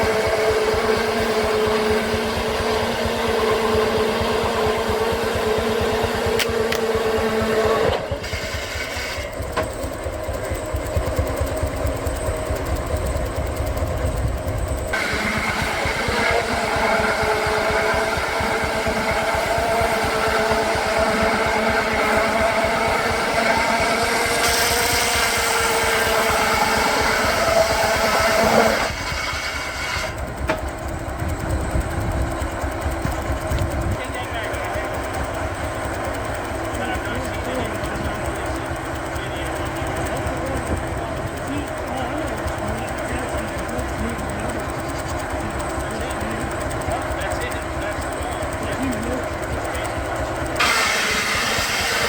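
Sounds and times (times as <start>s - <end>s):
circular saw blade cutting log: 0.0s - 52.0s
steam engine running: 0.0s - 52.0s.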